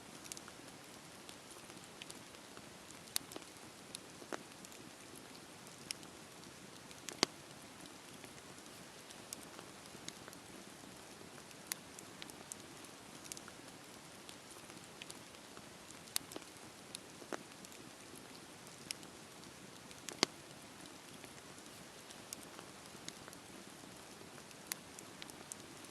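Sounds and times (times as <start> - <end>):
campfire hissing: 0.1 - 25.9
wood crackling and popping: 0.1 - 25.9.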